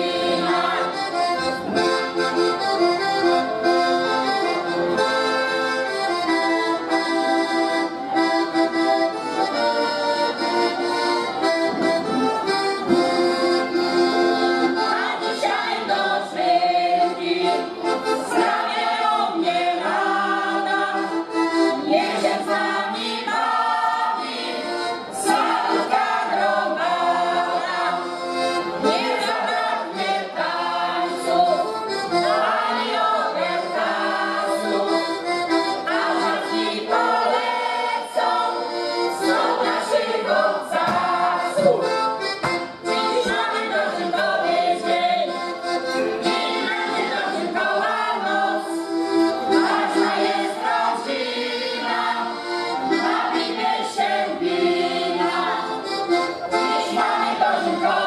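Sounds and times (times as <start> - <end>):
choir singing: 0.0 - 2.2, 12.5 - 58.0
accordion playing folk tune: 0.0 - 58.0.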